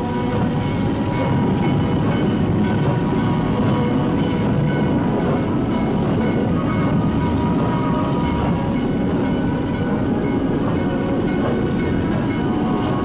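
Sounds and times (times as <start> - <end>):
train rumbling and rattling on rails: 0.0 - 13.0.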